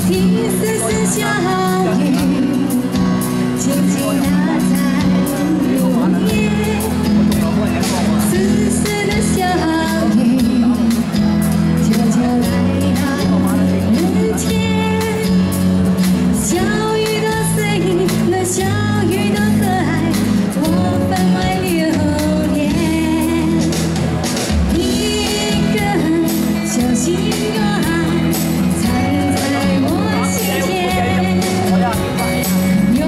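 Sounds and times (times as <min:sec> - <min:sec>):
instrumental accompaniment: 0:00.0 - 0:33.0
woman singing pop song: 0:00.0 - 0:33.0.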